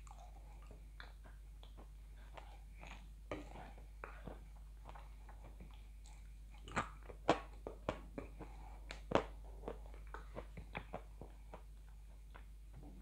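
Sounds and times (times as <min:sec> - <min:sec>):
quiet chewing: 0:00.0 - 0:13.0.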